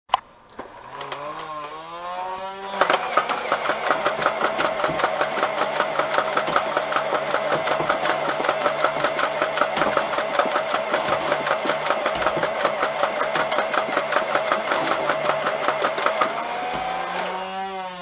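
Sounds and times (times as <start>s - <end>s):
motor whine revving: 0.6s - 18.0s
rapid rattle of dart shots: 2.6s - 18.0s.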